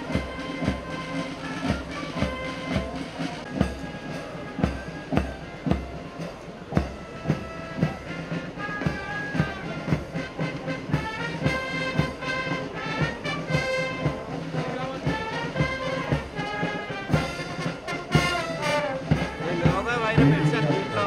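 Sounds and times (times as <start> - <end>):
brass band music: 0.0 - 21.0.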